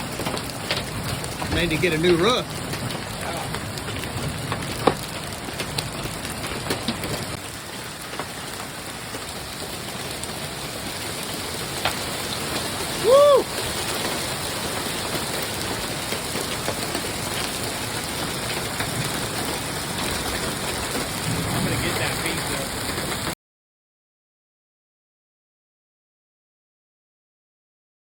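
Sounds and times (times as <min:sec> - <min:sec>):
hailstones ticking: 0:00.0 - 0:23.4
rain and hail downpour: 0:00.0 - 0:23.4.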